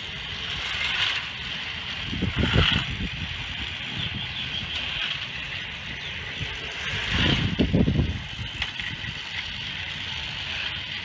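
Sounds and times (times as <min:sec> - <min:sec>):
toy train motors whirring: 0:00.0 - 0:11.0
wheels clattering on plastic track: 0:00.0 - 0:11.0.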